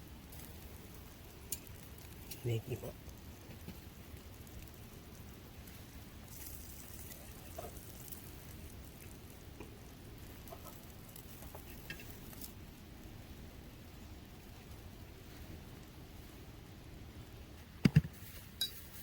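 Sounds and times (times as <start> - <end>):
skewers sizzling over wood fire: 0.0 - 19.0.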